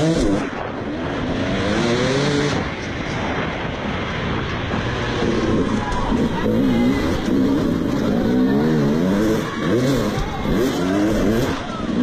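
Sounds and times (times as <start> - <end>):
motorbike engine revving: 0.0 - 12.0
steady rushing noise: 0.0 - 12.0.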